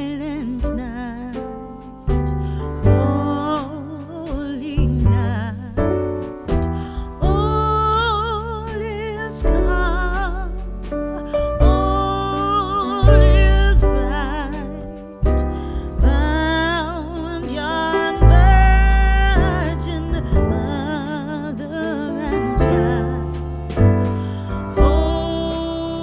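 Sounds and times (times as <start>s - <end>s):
held bass notes: 0.0s - 26.0s
slow song with vibrato singing: 0.0s - 26.0s.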